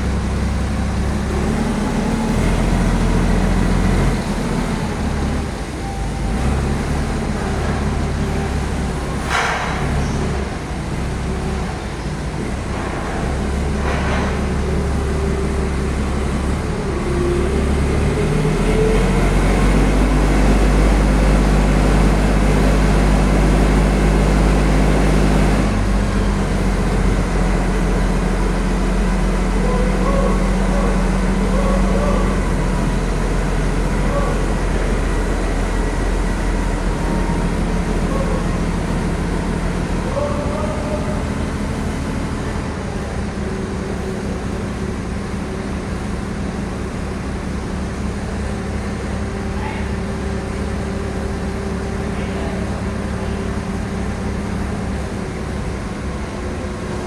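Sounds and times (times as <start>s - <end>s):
heavy truck engine droning: 0.0s - 57.0s.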